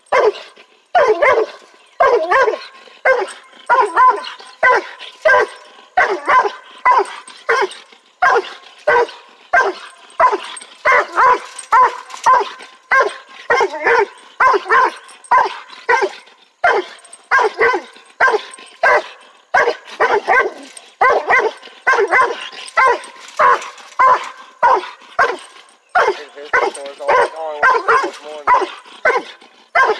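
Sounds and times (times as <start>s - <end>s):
hound barking: 0.1s - 29.9s.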